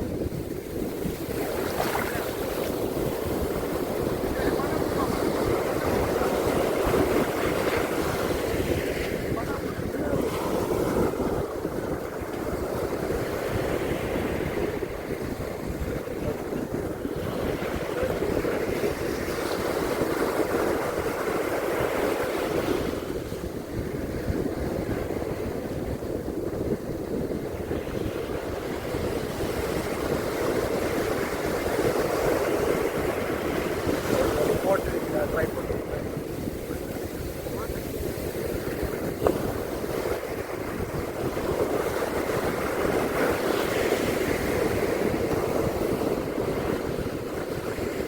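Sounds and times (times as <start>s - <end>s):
surf breaking on a beach: 0.0s - 48.0s
wind rumbling on microphone: 0.0s - 48.0s.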